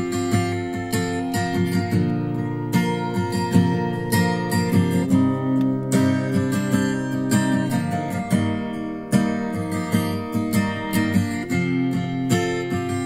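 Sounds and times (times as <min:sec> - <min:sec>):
acoustic guitar strummed and plucked: 0:00.0 - 0:13.0.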